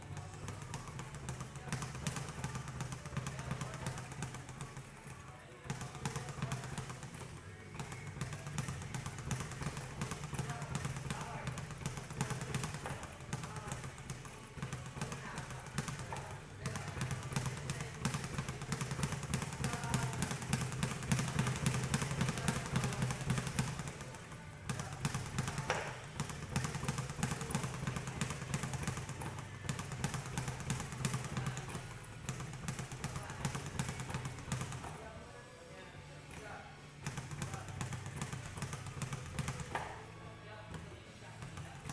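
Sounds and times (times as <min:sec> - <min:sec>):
speed bag being punched: 0:00.0 - 0:35.0, 0:37.0 - 0:40.0.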